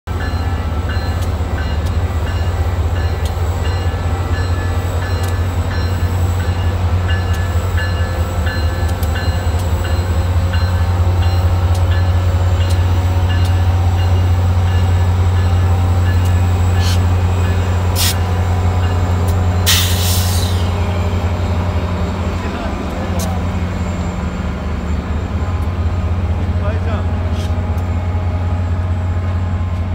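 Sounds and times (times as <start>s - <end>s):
diesel locomotive engine drone: 0.1s - 29.9s.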